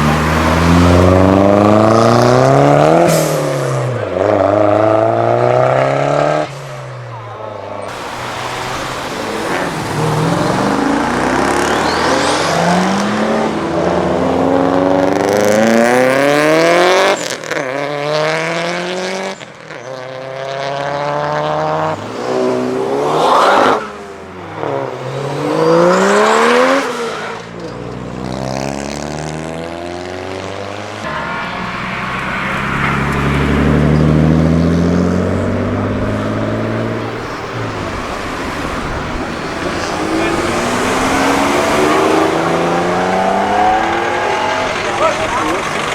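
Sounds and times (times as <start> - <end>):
car engines revving and accelerating: 0.0 - 45.9.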